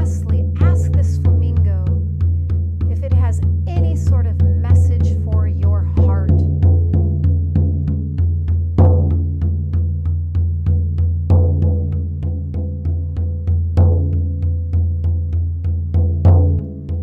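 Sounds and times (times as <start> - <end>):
frame drum struck with beater: 0.0 - 17.0.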